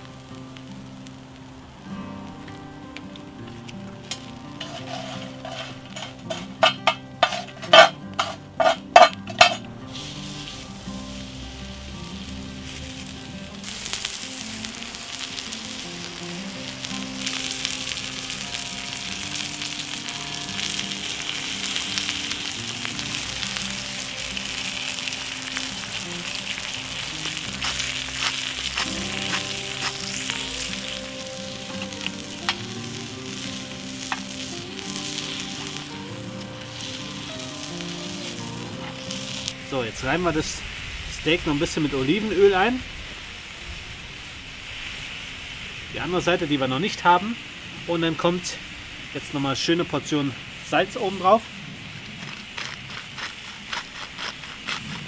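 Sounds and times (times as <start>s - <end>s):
background music: 0.0s - 44.3s
steak sizzling on charcoal: 0.0s - 55.0s.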